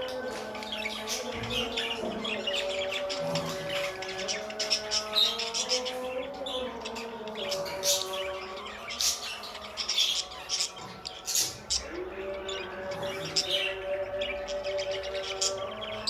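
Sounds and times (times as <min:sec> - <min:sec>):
background music: 0:00.0 - 0:16.0
budgies chirping: 0:00.0 - 0:16.0.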